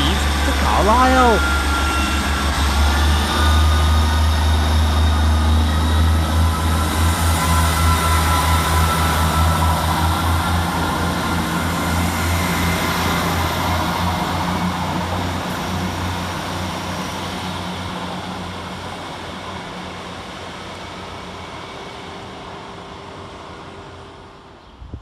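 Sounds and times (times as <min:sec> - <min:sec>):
diesel train engine drone: 0:00.0 - 0:25.0.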